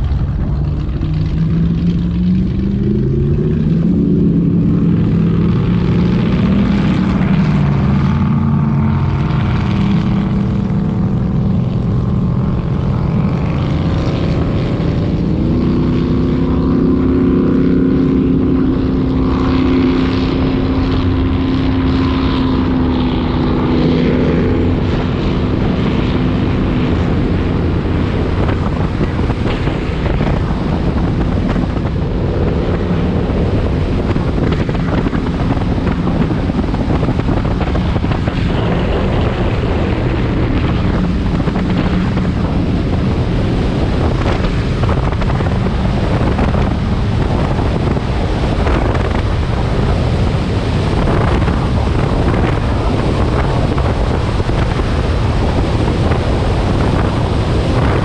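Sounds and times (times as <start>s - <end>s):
powerboat engines running: 0.0s - 58.0s
wind and water rushing: 0.0s - 58.0s.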